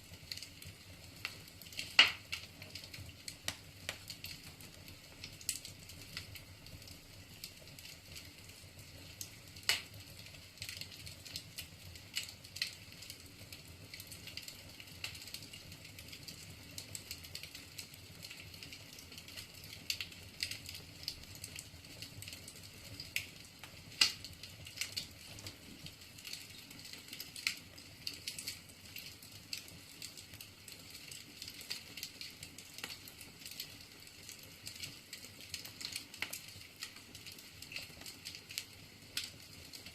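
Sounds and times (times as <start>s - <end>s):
firewood crackling and popping: 0.0s - 39.9s
low steady hiss: 0.0s - 39.9s.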